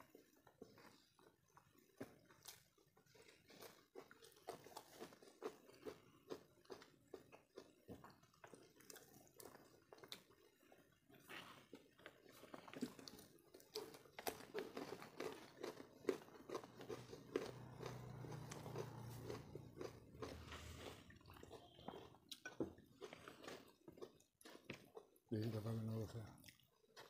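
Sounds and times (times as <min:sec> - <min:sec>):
chewing and mouth smacks: 0:00.0 - 0:25.3, 0:26.2 - 0:27.0.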